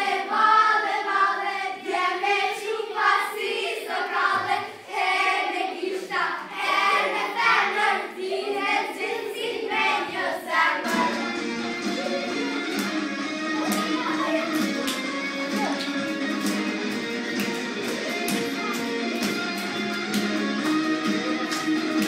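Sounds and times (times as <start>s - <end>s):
girls singing unaccompanied: 0.0s - 22.0s.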